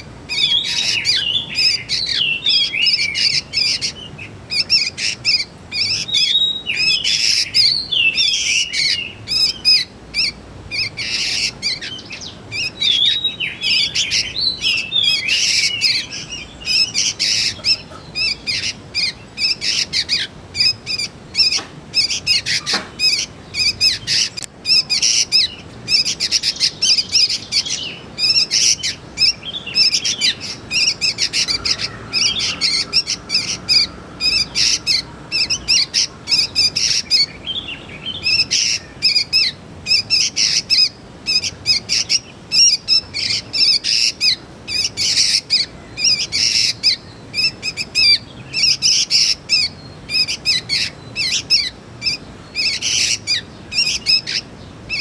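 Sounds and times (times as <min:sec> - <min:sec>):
birds making harsh chirps: 0:00.0 - 0:55.0.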